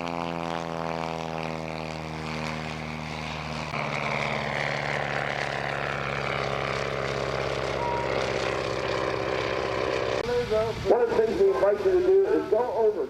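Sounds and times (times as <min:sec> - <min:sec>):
aircraft piston engine running: 0:00.0 - 0:13.0.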